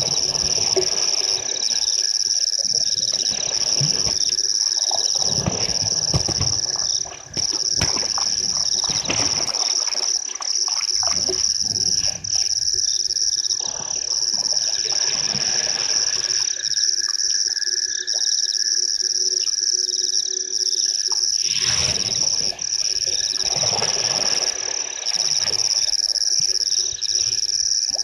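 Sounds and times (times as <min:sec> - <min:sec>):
frogs and insects chorus: 0:00.0 - 0:28.0.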